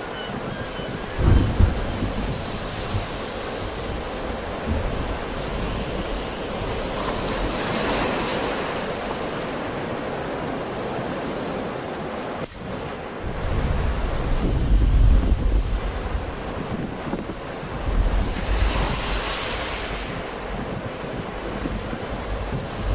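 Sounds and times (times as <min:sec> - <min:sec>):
sea waves breaking: 0:00.0 - 0:22.9.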